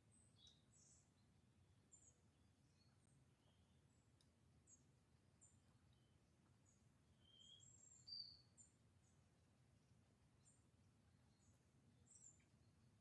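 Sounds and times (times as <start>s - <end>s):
faint birdsong chirps: 0.0s - 9.3s, 10.3s - 13.0s.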